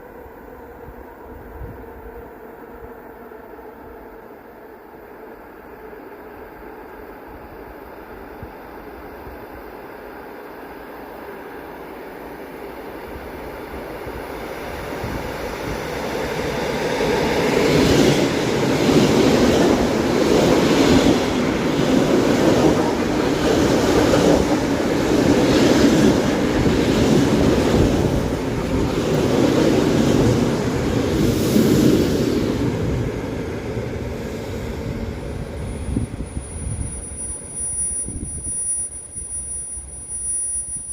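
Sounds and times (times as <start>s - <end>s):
electric train wheels rumbling on rails: 0.0s - 40.9s.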